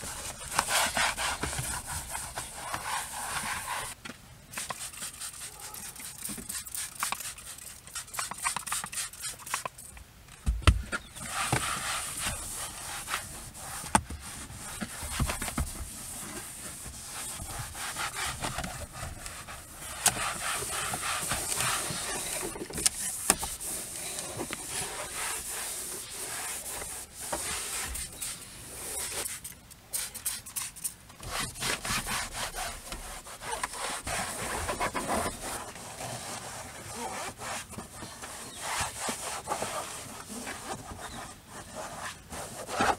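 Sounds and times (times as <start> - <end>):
towel rubbing on leather: 0.0 - 4.0, 4.6 - 9.6, 11.2 - 29.3, 31.2 - 42.9.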